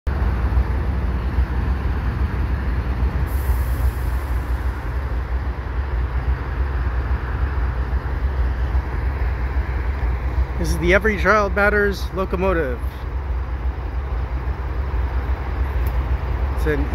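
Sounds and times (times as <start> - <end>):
diesel locomotive engine rumbling: 0.1 - 16.9.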